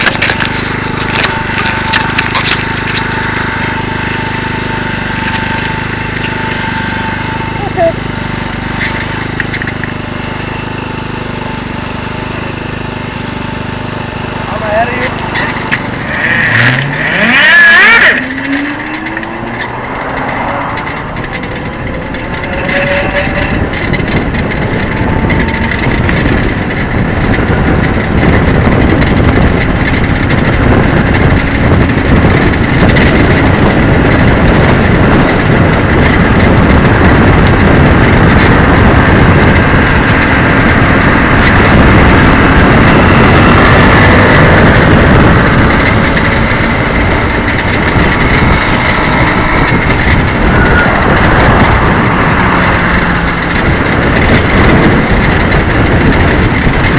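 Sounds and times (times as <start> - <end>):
motorcycle engine accelerating: 0.0 - 56.9
road and wind noise: 0.0 - 56.9.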